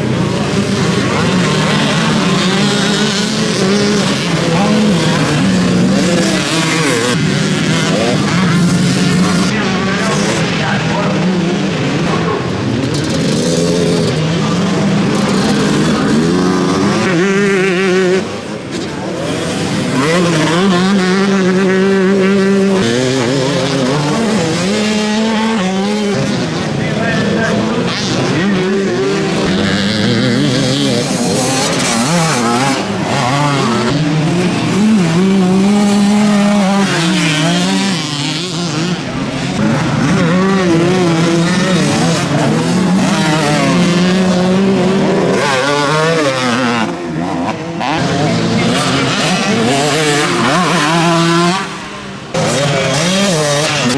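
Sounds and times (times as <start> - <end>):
motocross bikes revving: 0.0 - 53.9.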